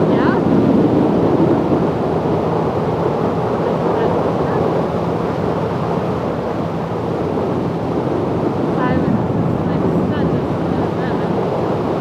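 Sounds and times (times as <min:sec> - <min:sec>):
motorcycle engine humming: 0:00.0 - 0:12.0
wind rushing over microphone: 0:00.0 - 0:12.0.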